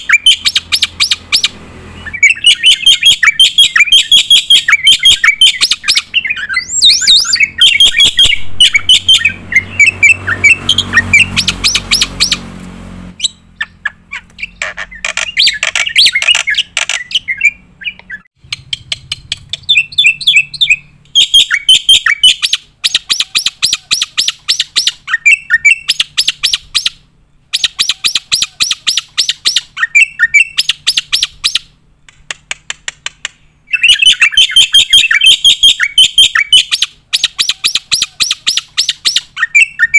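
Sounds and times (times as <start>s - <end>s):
bird chattering and squawking: 0.0s - 12.5s, 13.2s - 31.8s, 33.3s - 39.9s.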